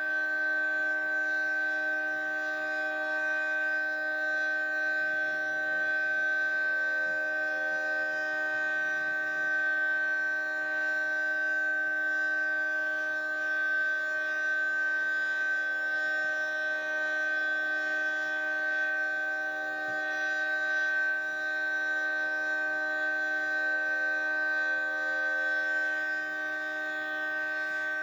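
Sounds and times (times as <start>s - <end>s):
outdoor warning siren: 0.0s - 28.0s.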